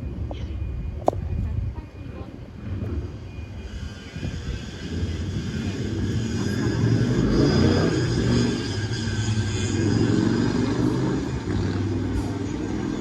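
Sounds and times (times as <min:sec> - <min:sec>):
heavy vehicle rumbling: 0:00.0 - 0:13.0.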